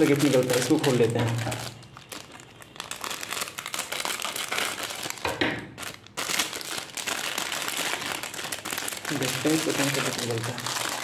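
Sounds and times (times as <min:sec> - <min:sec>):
foil snack packet crinkling: 0:00.0 - 0:11.0.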